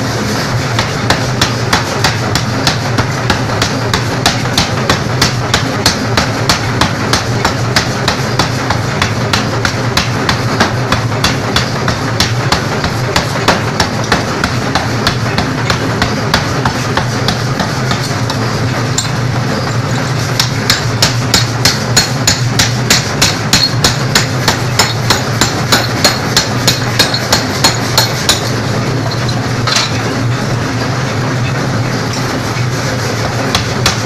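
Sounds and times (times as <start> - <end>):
machine low running hum: 0.0 - 34.0
power hammer pounding steel: 0.0 - 34.0.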